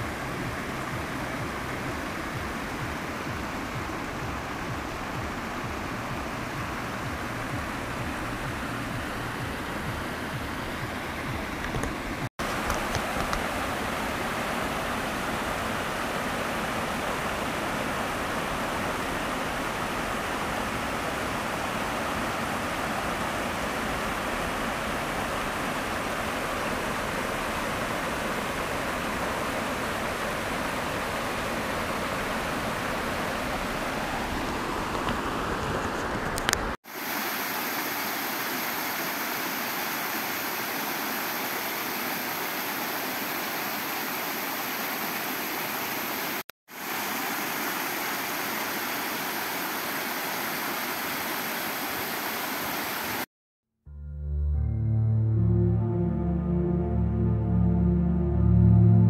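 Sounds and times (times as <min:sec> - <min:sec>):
waterfall rushing: 0:00.0 - 0:53.3.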